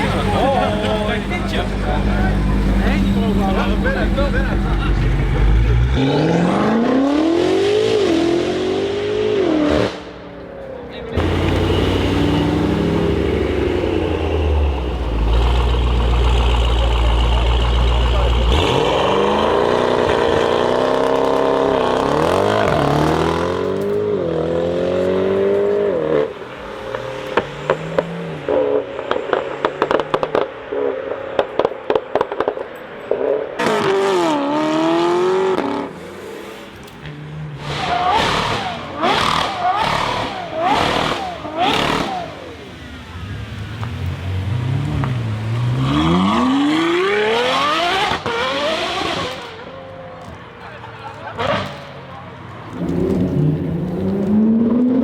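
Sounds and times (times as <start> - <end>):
engine revving: 0.0 - 10.3, 11.1 - 26.4, 33.6 - 49.7, 52.7 - 55.0.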